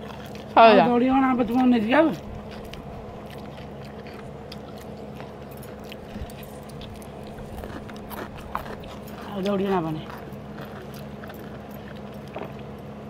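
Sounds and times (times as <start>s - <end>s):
chewing: 0.0s - 13.0s
faint low hum: 0.0s - 13.0s.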